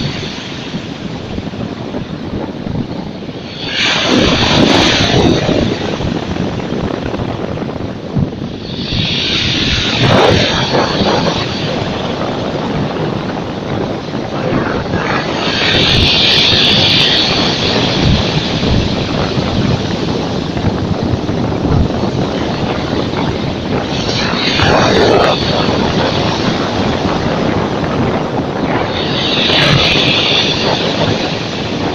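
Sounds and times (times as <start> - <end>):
rumble of sea: 0.0 - 31.9.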